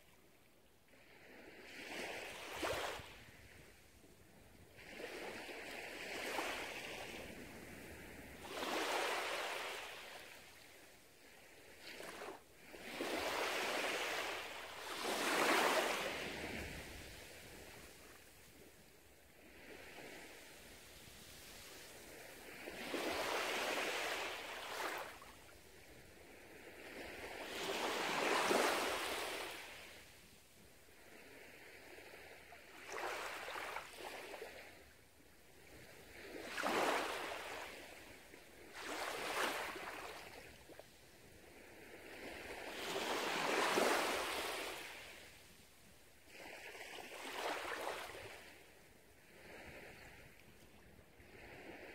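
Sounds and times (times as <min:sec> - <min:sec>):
small waves washing on beach: 0:00.9 - 0:51.9.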